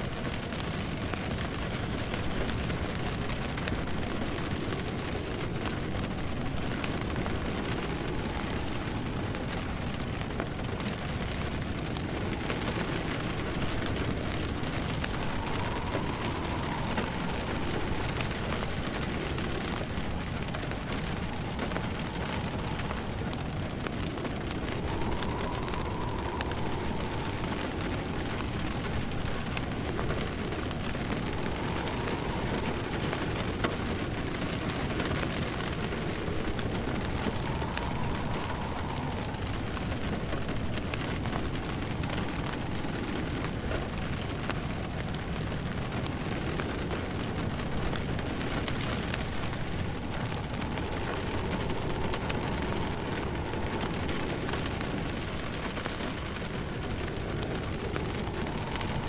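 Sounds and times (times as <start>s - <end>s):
log fire crackling: 0.0s - 59.0s
rain hissing and pattering: 0.0s - 59.0s
wind howling softly: 0.0s - 59.0s.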